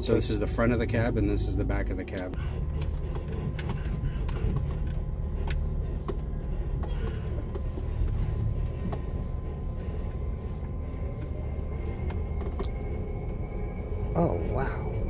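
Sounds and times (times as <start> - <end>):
faint steady hum: 0.0 - 15.0
low rumble of tyres: 0.0 - 15.0.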